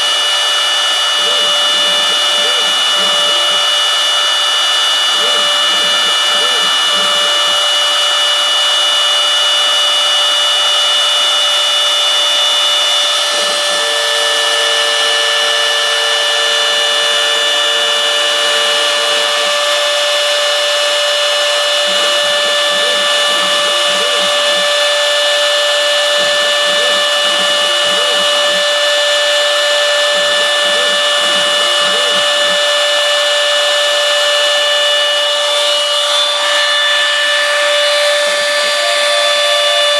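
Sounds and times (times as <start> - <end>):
mill spindle whining: 0.0 - 39.9.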